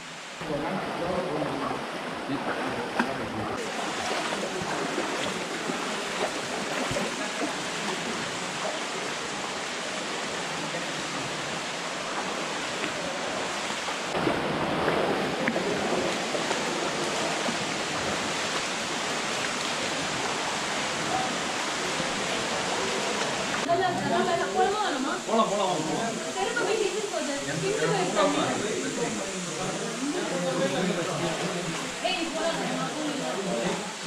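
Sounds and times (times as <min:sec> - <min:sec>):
waterfall and stream rushing: 0:00.0 - 0:34.0.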